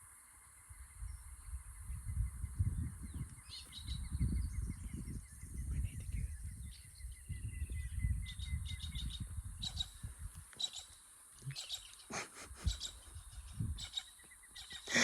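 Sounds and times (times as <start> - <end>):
high insect hum: 0.0 - 15.0
small birds chirping: 0.0 - 15.0.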